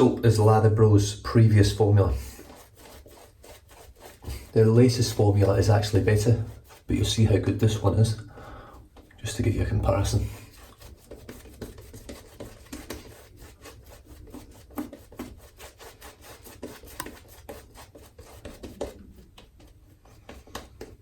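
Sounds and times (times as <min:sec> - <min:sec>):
shaving brush scrubbing lather: 0:00.0 - 0:08.2, 0:09.2 - 0:20.9.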